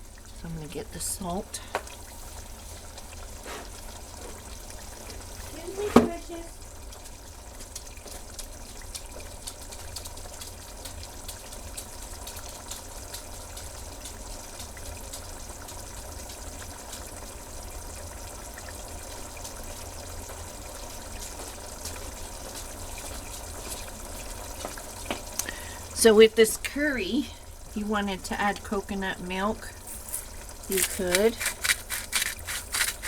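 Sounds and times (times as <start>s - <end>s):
curry boiling in a pot: 0.0s - 33.0s.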